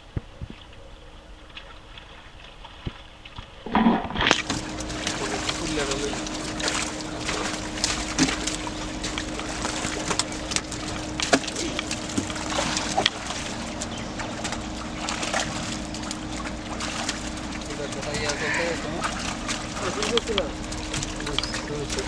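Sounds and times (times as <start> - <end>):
fish flapping and splashing: 1.4 - 22.0
low hum: 3.5 - 22.0.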